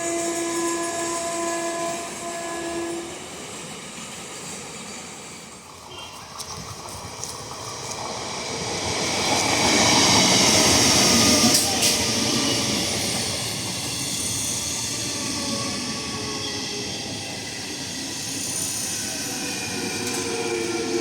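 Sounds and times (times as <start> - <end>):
train wheels rushing on rail: 0.0 - 21.0
sharp clicks of train wheels: 3.5 - 20.4.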